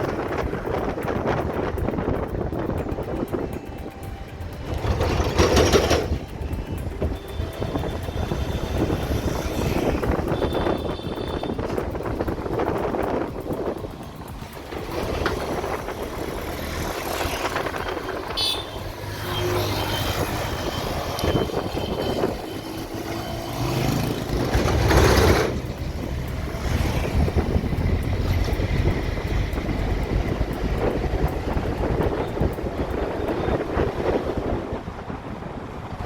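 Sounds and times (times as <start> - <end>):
traffic passing: 0.0 - 36.0.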